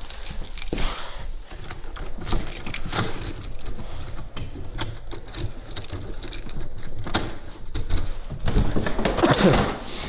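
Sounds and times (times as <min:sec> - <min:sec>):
small objects clicking and rattling: 0:00.0 - 0:08.3.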